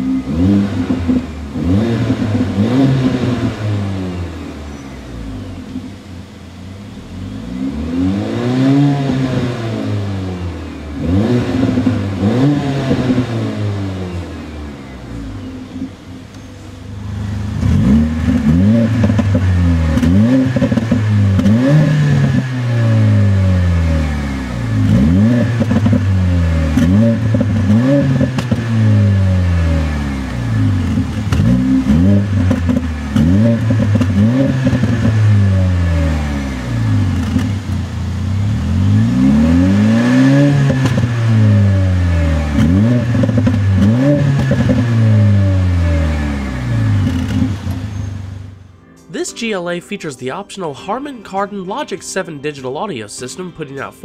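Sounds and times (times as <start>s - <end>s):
car engine revving: 0.0s - 48.7s.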